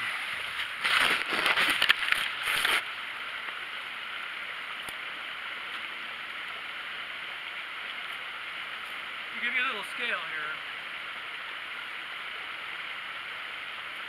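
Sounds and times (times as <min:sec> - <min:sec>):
creek gurgling: 0:00.0 - 0:14.0.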